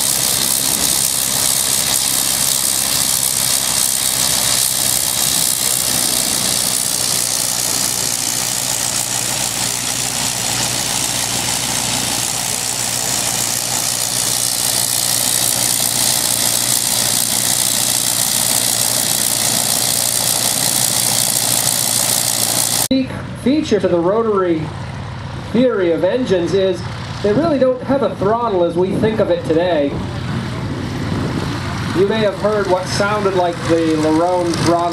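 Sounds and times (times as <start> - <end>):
rotary aircraft engine running: 0.0 - 34.9.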